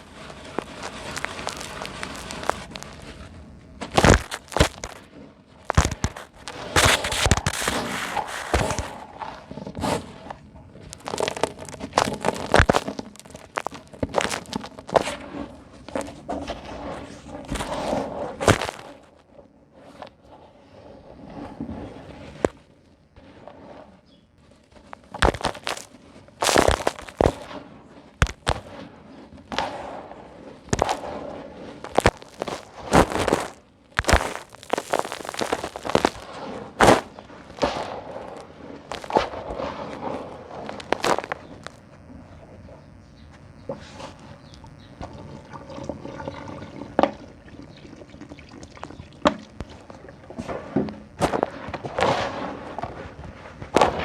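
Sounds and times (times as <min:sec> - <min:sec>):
concrete chunks crushed by hand: 0:00.0 - 0:03.2, 0:03.8 - 0:19.3, 0:24.8 - 0:28.8, 0:29.4 - 0:42.0, 0:43.9 - 0:54.0.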